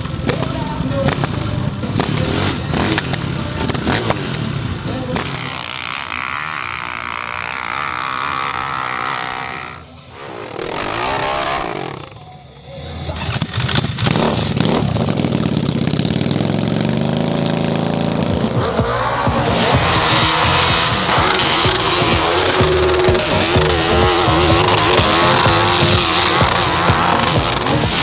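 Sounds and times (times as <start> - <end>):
motorcycle engine revving hard: 0.0 - 12.2, 13.1 - 28.0.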